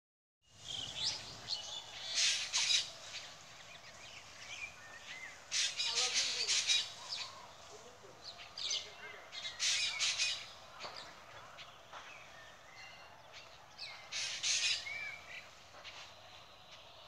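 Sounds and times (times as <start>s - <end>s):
wild birds chirping and whistling: 0.5s - 17.0s.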